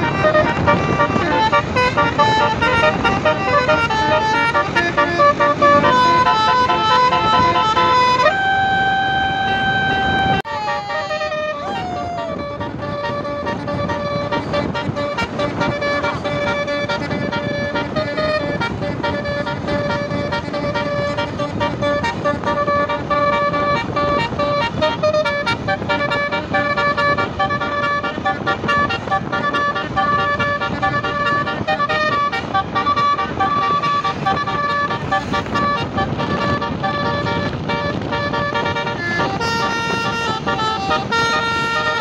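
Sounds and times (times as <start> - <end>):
musical bus horn: 0.0 - 42.0.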